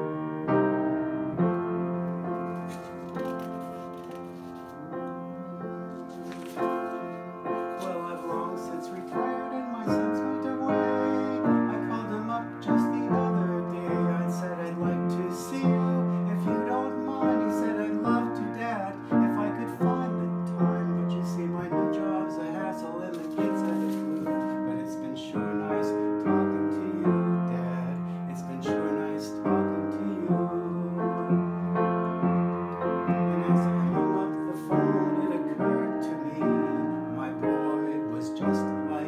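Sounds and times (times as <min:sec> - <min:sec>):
grand piano playing chords: 0:00.0 - 0:39.0.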